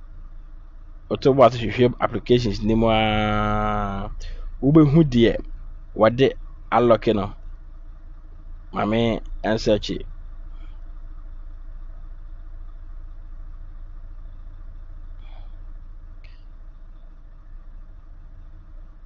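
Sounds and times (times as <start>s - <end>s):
faint hiss: 0.0s - 19.0s
low background hum: 0.0s - 19.0s.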